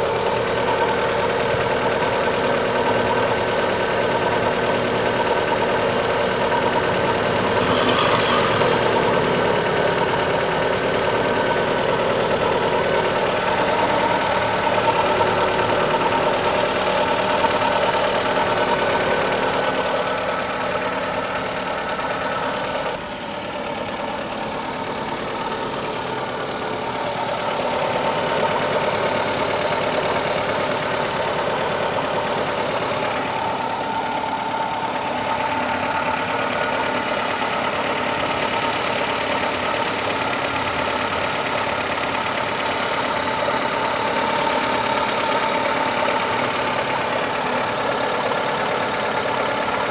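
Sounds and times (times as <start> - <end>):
car engine idling: 0.0 - 49.9
strange engine noise: 0.0 - 49.9.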